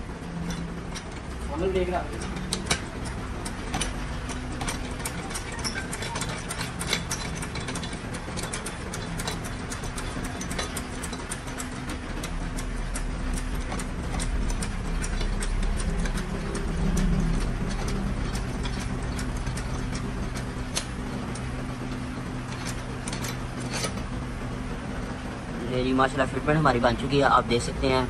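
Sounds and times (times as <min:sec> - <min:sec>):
steady mechanical hum: 0:00.0 - 0:28.0
irregular clicks and ticks: 0:00.3 - 0:25.2.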